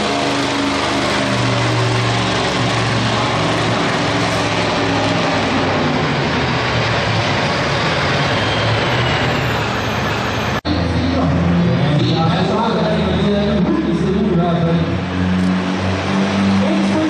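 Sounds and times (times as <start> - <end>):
truck engine at full throttle: 0.0 - 17.0.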